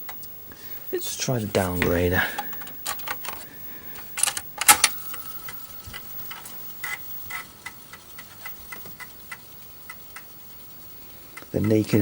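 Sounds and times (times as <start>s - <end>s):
floppy drive clicking: 0.0s - 12.0s.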